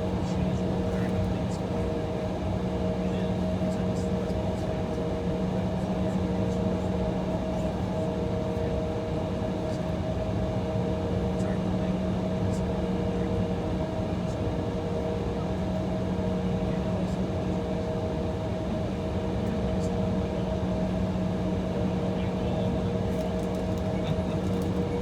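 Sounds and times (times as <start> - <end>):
aircraft cabin drone: 0.0 - 25.0.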